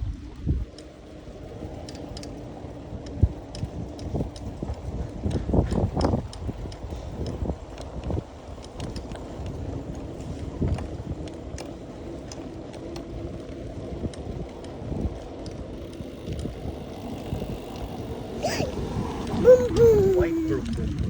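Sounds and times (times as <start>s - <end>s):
bicycle rolling rumble: 0.0s - 21.0s
wind buffeting microphone: 0.0s - 21.0s.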